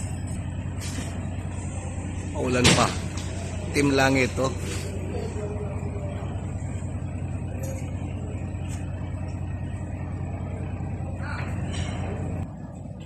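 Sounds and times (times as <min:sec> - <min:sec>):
large engine humming: 0:00.0 - 0:13.0.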